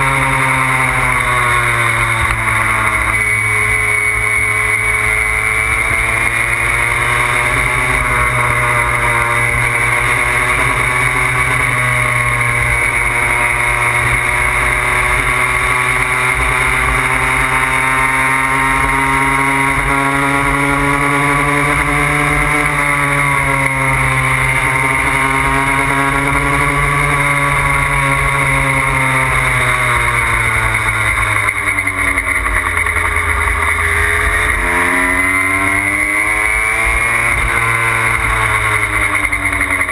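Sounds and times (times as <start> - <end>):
moped two-stroke engine running: 0.0 - 39.9.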